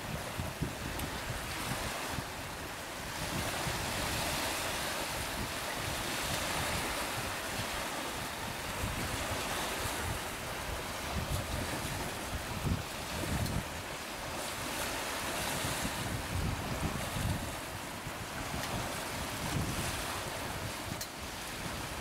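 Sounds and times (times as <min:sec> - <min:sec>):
choppy sea and surf: 0:00.0 - 0:22.0
wind buffeting microphone: 0:00.0 - 0:22.0.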